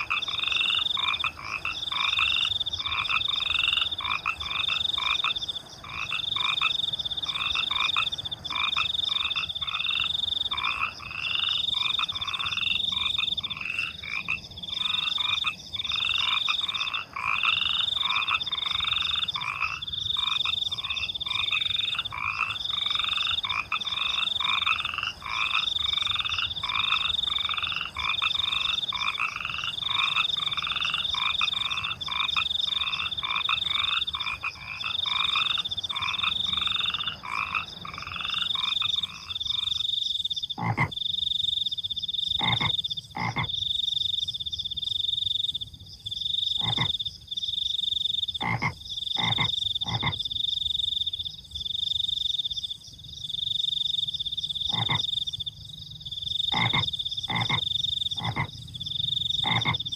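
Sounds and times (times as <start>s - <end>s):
crickets trilling: 0.0s - 59.9s
frogs croaking: 0.0s - 59.9s.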